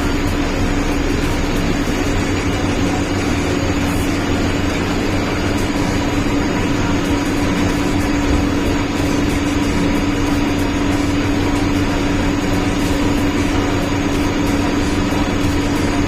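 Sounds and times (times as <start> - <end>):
machine tool cutting metal: 0.0 - 16.0.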